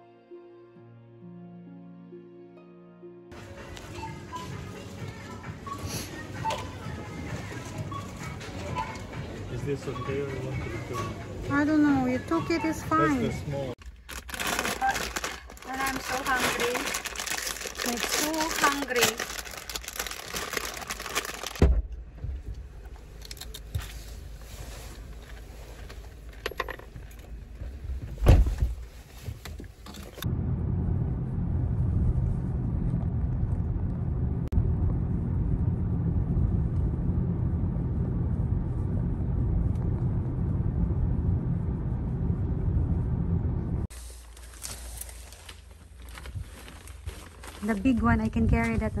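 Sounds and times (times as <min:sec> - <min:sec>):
car road and engine rumble: 0:03.3 - 0:49.0.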